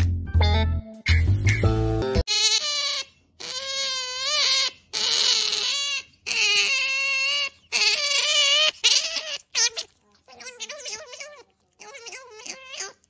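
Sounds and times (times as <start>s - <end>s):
otter whining cries: 2.3s - 13.0s.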